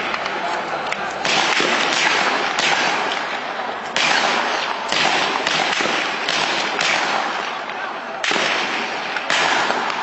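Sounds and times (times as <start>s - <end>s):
gunshots echoing: 1.2s - 10.0s.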